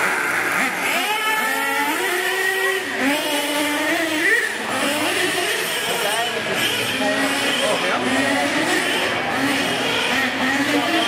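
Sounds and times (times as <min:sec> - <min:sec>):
toy car motors whining: 0:00.0 - 0:11.0.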